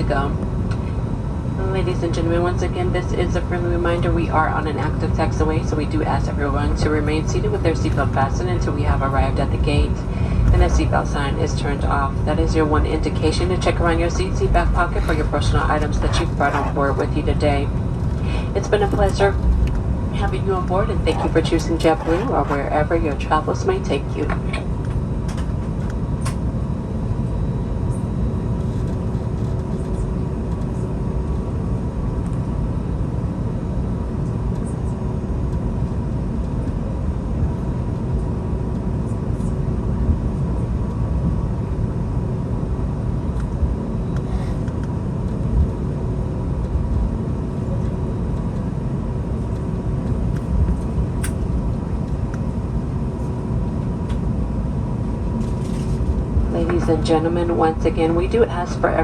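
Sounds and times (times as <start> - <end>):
faint steady hum: 0.0 - 59.0
low rumble of idling jet engines: 0.0 - 59.0.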